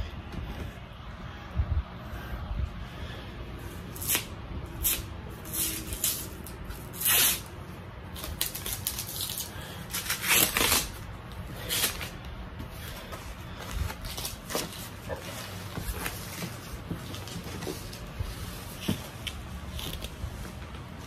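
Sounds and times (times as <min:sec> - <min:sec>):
protective wrap rustling: 0:04.0 - 0:21.0.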